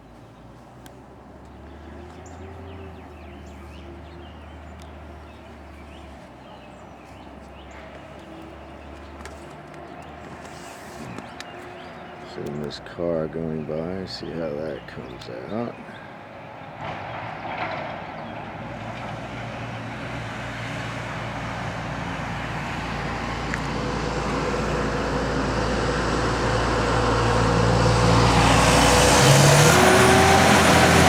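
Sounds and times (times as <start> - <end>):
road vehicle approaching: 0.0 - 31.0.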